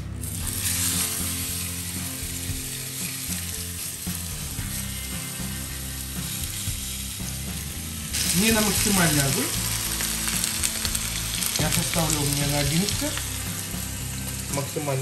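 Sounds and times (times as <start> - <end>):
meat sizzling in a frying pan: 0.2 - 15.0.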